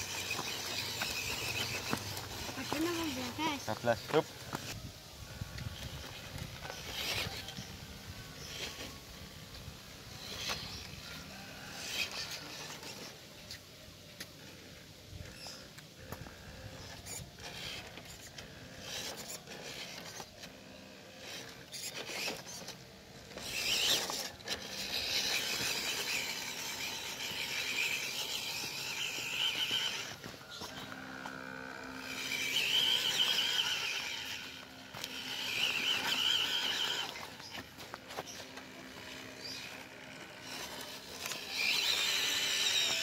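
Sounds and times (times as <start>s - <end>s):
electric motor and gears whining: 0.0s - 43.0s.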